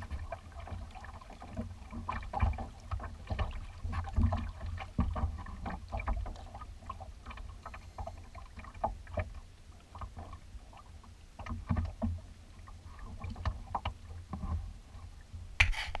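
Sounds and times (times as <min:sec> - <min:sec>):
water slapping against kayak hull: 0:00.0 - 0:14.7.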